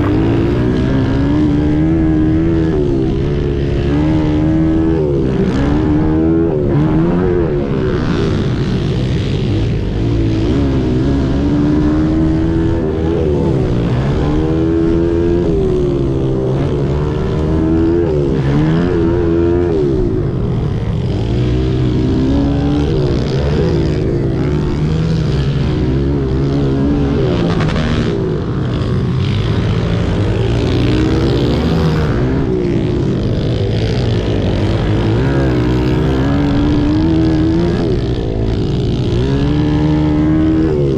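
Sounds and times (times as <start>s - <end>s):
pit bike engines revving: 0.0s - 40.9s.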